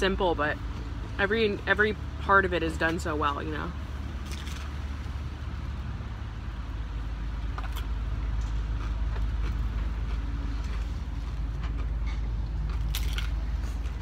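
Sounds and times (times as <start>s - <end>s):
rumble of road vehicles: 0.0s - 14.0s.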